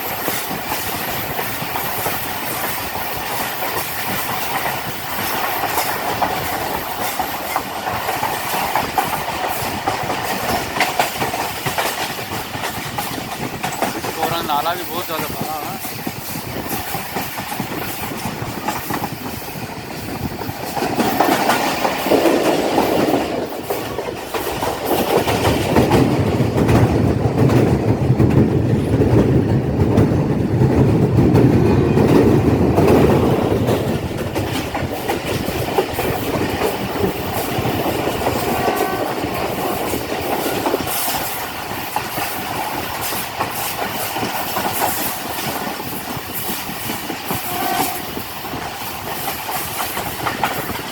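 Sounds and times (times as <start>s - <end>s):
heavy low train rumble: 0.0s - 50.9s
train wheels clattering: 0.0s - 50.9s.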